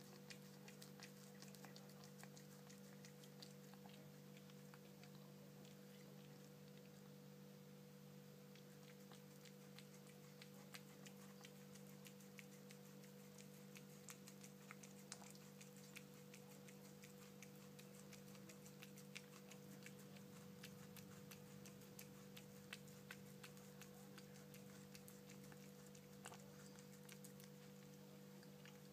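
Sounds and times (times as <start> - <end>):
cat chewing and licking: 0.0 - 28.9
steady low hum: 0.0 - 28.9.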